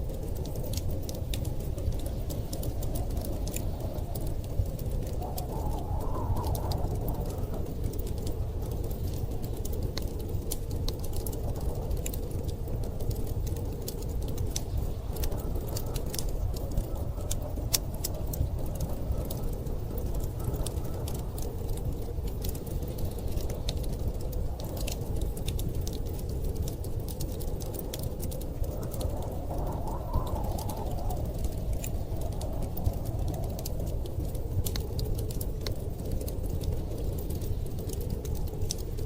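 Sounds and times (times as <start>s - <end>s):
storm wind rumbling: 0.0s - 39.0s
wood fire crackling: 0.0s - 39.0s.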